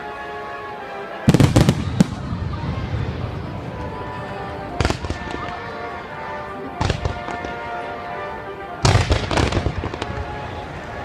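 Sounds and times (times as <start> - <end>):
music playing: 0.0 - 11.0
fireworks bangs: 1.3 - 11.0.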